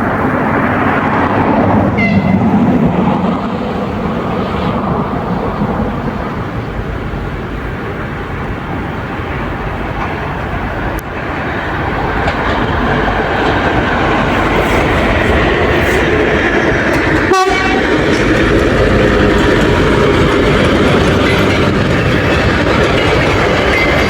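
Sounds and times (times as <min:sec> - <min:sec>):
diesel train rumbling: 0:00.0 - 0:24.0.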